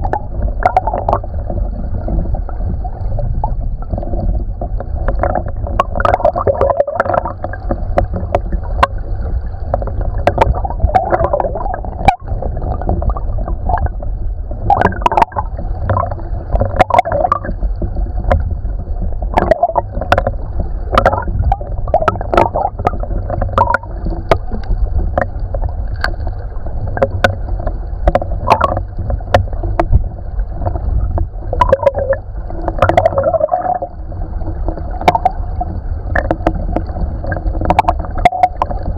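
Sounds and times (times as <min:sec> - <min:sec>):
low rumble: 0:00.0 - 0:38.9
muffled underwater creek flow: 0:00.0 - 0:38.9.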